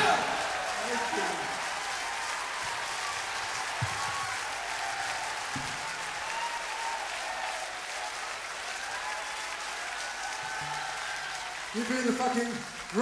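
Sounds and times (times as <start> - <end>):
audience applauding: 0.0 - 13.0
voices calling and cheering: 0.0 - 13.0.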